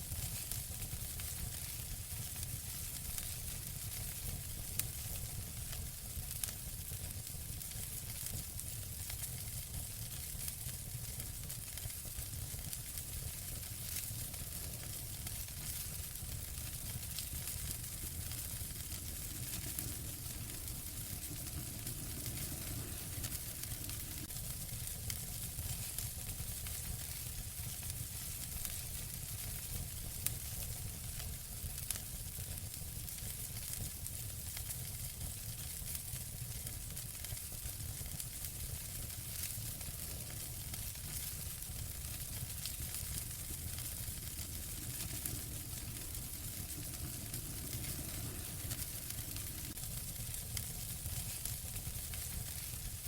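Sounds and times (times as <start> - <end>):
wood fire crackling: 0.0 - 53.0
fire popping: 0.1 - 53.0.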